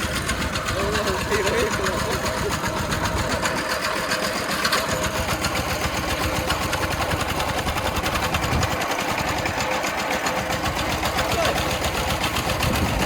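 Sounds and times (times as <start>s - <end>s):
tractor engine chugging: 0.0s - 13.0s.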